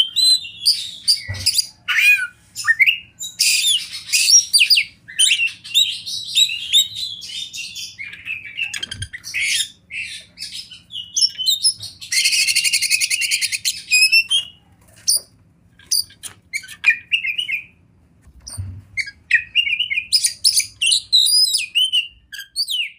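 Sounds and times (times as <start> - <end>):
bird singing varied song: 0.0 - 17.8, 18.4 - 22.9.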